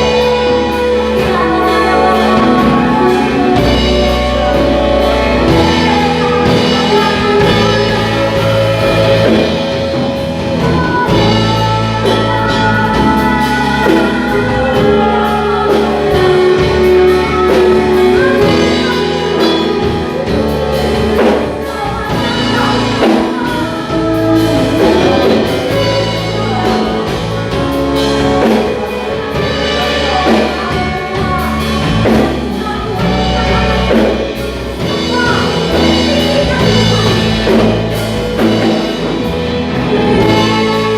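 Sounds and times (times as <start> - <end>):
bass: 0.0 - 40.9
drums: 0.0 - 40.9
people singing: 0.0 - 40.9
worship band playing: 0.0 - 40.9.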